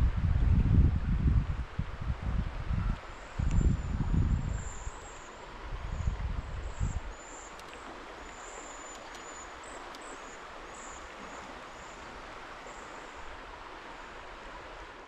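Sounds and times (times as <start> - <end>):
river water rushing: 2.5 - 15.0.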